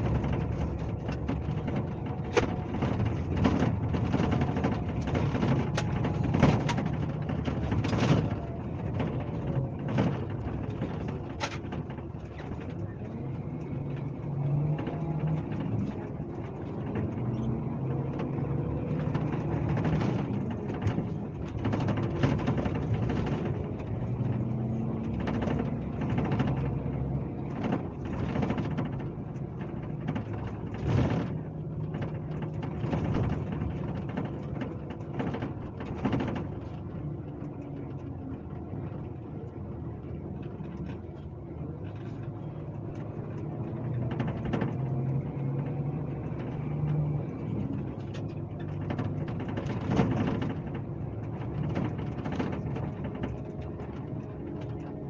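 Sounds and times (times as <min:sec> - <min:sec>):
bus diesel engine running: 0:00.0 - 0:55.0
rattles and knocks: 0:00.0 - 0:55.0.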